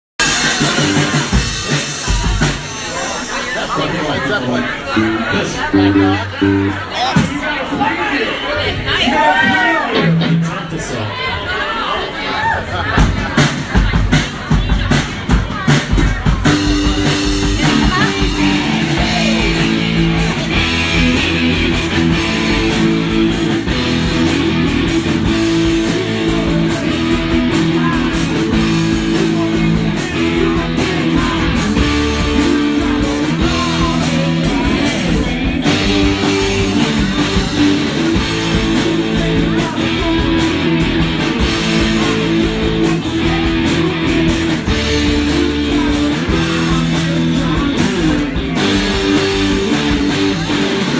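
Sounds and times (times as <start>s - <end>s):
drum kit: 0.1s - 7.9s, 8.7s - 10.7s, 12.8s - 50.9s
electric guitars: 0.2s - 7.9s, 8.8s - 11.0s, 12.9s - 50.9s.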